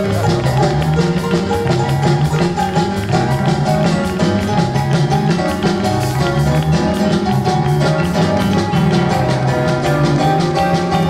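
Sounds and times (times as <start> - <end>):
bass guitar: 0.0 - 11.0
drum kit beat: 0.0 - 11.0
electric guitar: 0.0 - 11.0.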